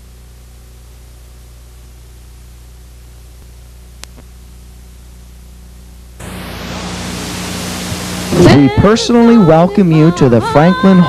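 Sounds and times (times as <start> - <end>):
low electrical hum: 0.0 - 11.0
tape hiss: 0.0 - 11.0.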